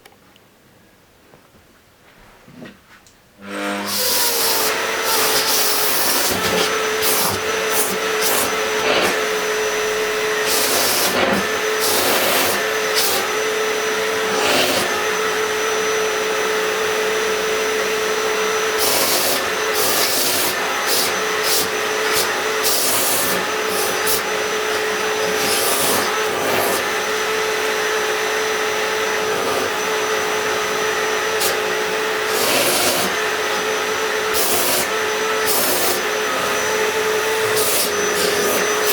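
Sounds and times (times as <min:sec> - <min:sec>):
vacuum cleaner motor whine: 0:03.4 - 0:38.9.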